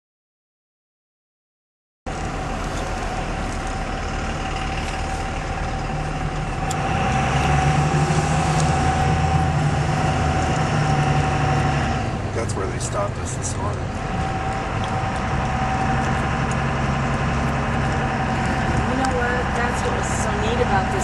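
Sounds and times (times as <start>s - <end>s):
car engine and road noise: 2.1s - 21.0s
steady whine: 2.1s - 21.0s.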